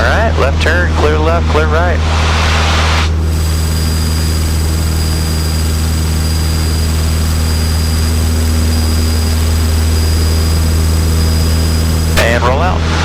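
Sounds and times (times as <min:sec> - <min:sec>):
airplane engine drone: 0:00.0 - 0:13.0
thin high whine: 0:02.0 - 0:13.0.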